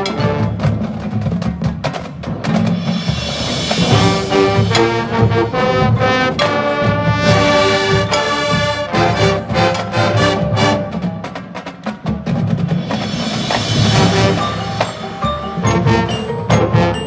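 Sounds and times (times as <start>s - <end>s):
marching band brass chords: 0.0s - 17.0s
rhythmic percussion hits: 0.0s - 17.0s.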